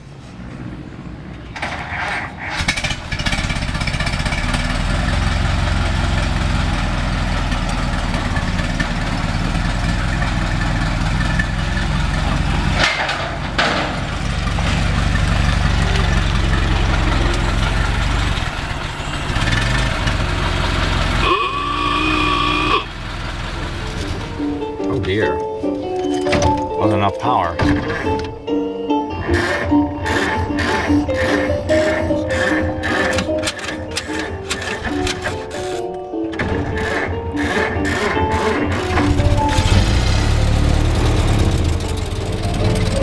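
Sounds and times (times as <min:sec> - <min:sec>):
old car engine running: 0:02.4 - 0:25.5, 0:29.2 - 0:43.0.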